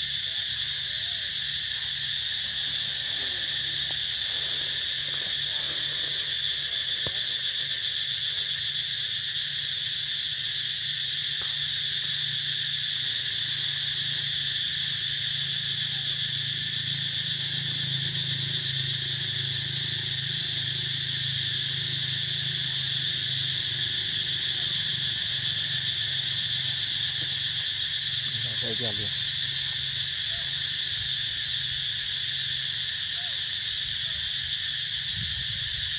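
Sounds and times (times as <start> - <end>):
insects buzzing: 0.0 - 35.9.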